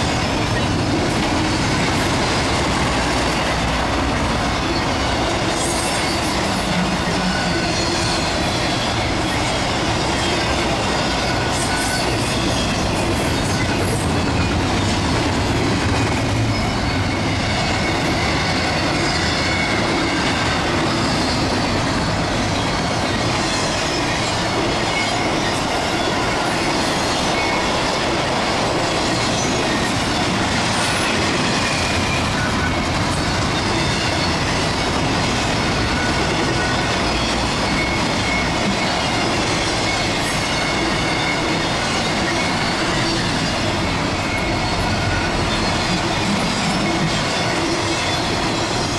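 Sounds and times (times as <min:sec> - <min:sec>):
freight train wheels clattering: 0:00.0 - 0:48.9.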